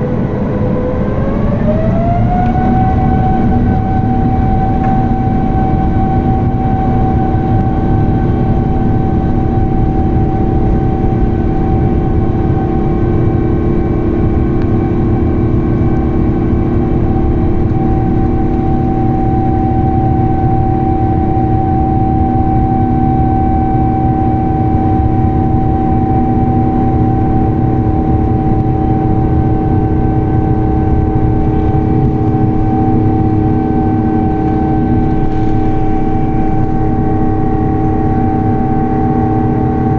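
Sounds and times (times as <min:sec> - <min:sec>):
constant engine whine: 0:00.0 - 0:39.9
jet engines droning in cabin: 0:00.0 - 0:39.9.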